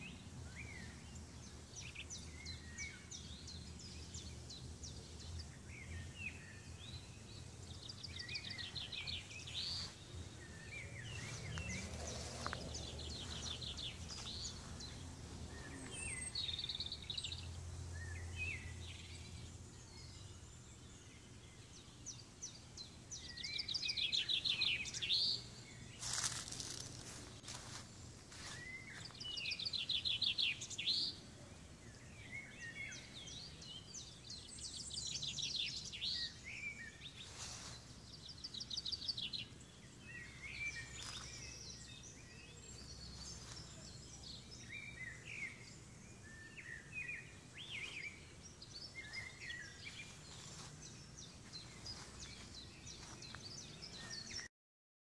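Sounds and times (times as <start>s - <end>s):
songbirds singing: 0.0s - 54.5s.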